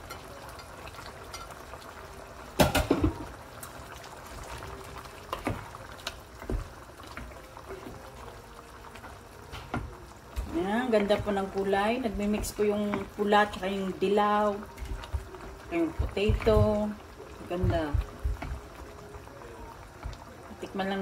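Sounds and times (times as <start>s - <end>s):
curry bubbling in a pot: 0.0s - 21.0s
wooden spoon stirring a pot: 3.6s - 21.0s.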